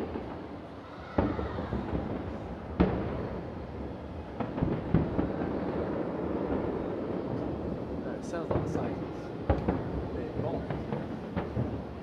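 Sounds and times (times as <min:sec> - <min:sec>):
distant fireworks bangs: 0:00.0 - 0:12.0.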